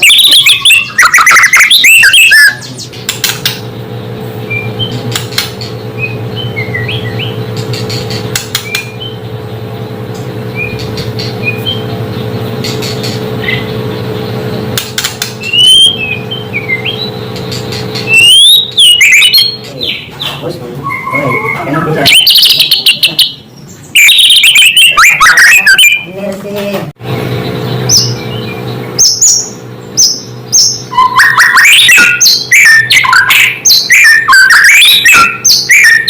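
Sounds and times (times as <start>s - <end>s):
bird whistled song: 0.0s - 3.7s, 4.4s - 9.7s, 10.4s - 26.1s, 27.4s - 36.0s
steady low hum: 0.0s - 35.7s.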